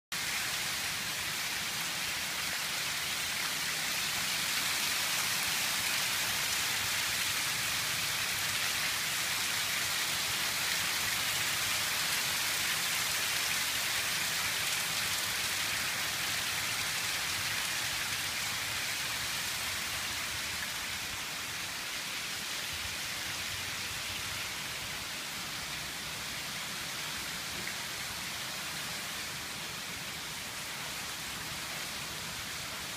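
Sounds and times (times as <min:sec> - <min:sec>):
steady rain falling: 0:00.1 - 0:32.9.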